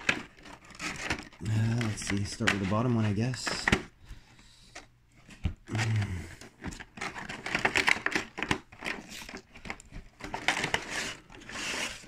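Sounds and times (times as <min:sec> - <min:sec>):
packaging crinkling: 0:00.0 - 0:04.0, 0:05.2 - 0:12.0.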